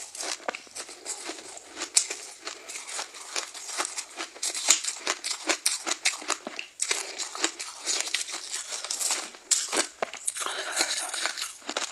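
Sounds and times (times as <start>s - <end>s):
biting and crunching ice: 0.1s - 11.9s.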